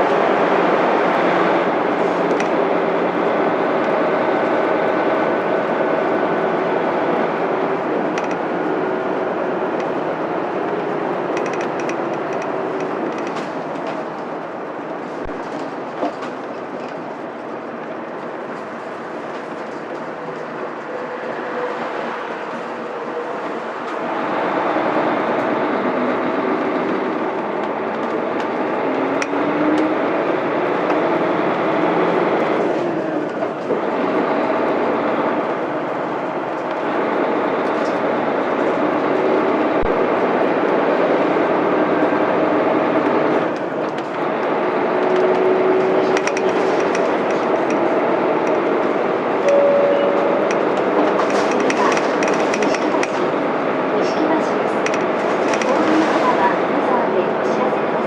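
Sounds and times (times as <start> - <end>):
bus diesel engine driving: 0.0 - 58.0.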